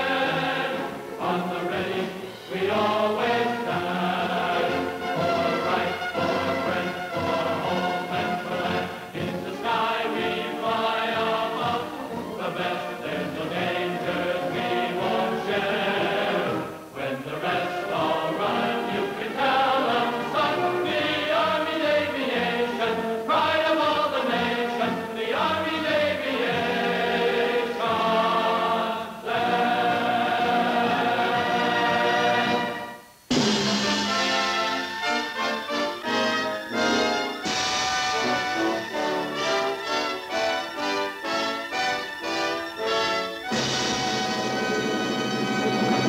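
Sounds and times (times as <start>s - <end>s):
choir singing: 0.0s - 46.0s
orchestral film music: 0.0s - 46.0s.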